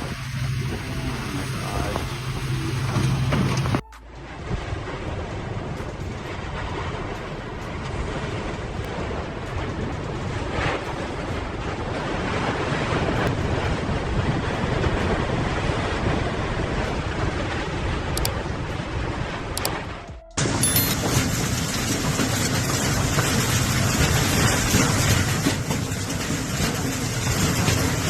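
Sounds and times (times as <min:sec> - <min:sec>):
strong wind on microphone: 0:00.0 - 0:28.0.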